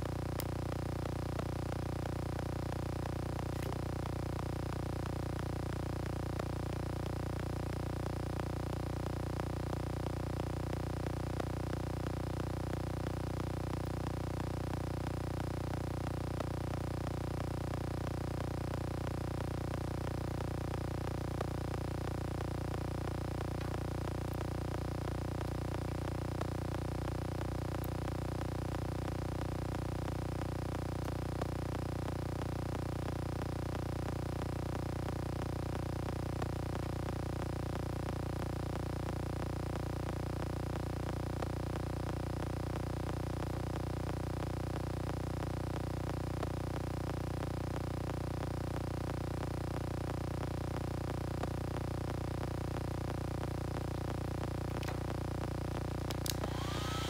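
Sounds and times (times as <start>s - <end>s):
low hum with overtones: 0.0s - 57.0s.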